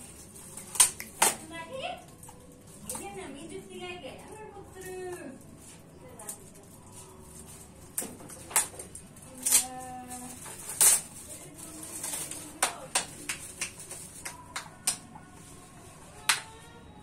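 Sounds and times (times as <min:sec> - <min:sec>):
foil gift wrap crinkling: 0:00.0 - 0:16.7.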